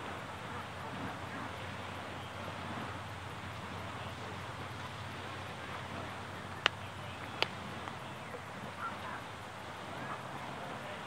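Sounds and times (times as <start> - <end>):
small surf: 0.0 - 11.0
wind: 0.0 - 11.0.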